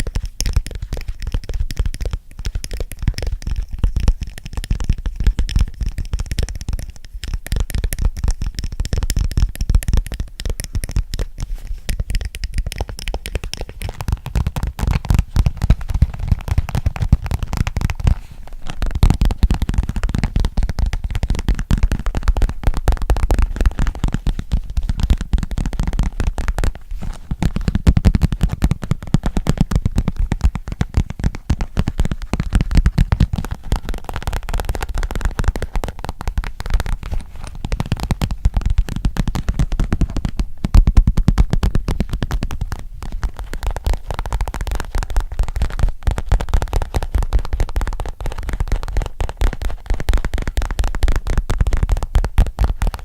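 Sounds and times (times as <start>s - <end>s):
fingernails tapping on microphone: 0.0s - 53.0s.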